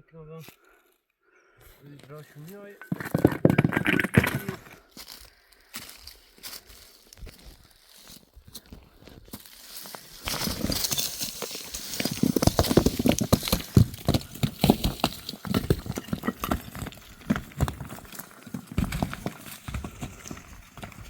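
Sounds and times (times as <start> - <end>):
footsteps on stony ground: 1.8 - 21.0.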